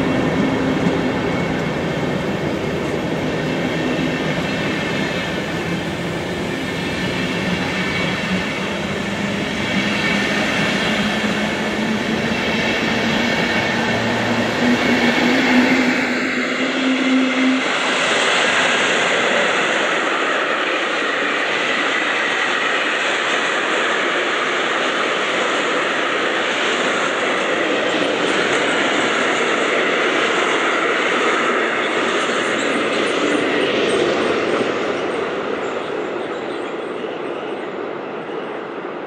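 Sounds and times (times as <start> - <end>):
train rushing over rails: 0.0 - 39.0.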